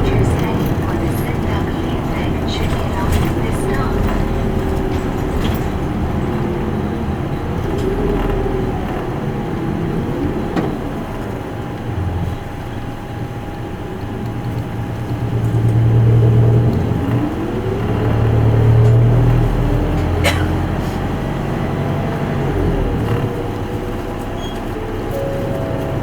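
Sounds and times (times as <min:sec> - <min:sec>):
bus diesel engine: 0:00.0 - 0:26.0.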